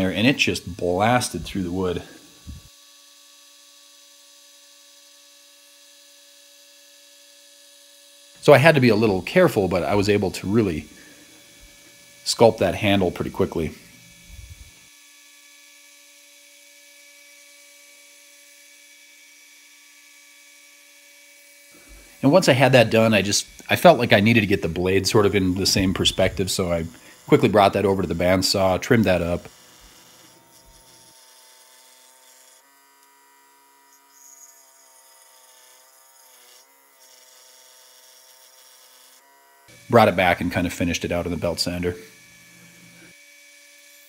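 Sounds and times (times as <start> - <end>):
belt grinder whine: 0.0 - 44.0
scroll saw cutting wood: 0.0 - 44.0.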